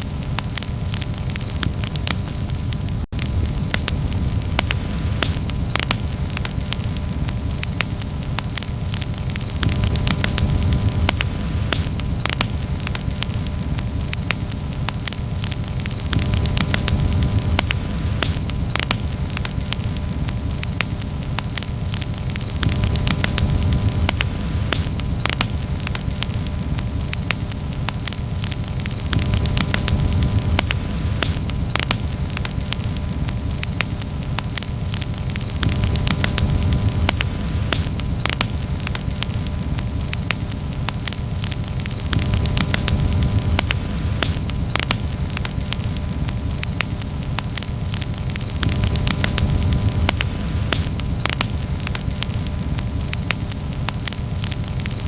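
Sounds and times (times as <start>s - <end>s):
campfire crackling and popping: 0.0s - 55.0s
low rushing of fire: 0.0s - 55.0s.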